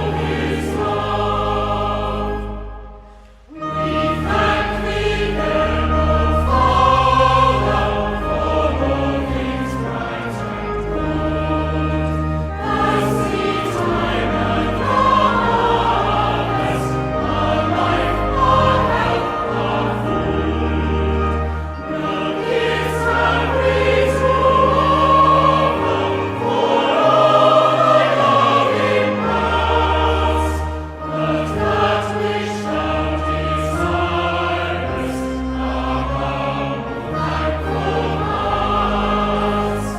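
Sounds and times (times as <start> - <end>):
choir singing a hymn: 0.0 - 39.9
low sustained notes: 0.0 - 39.9.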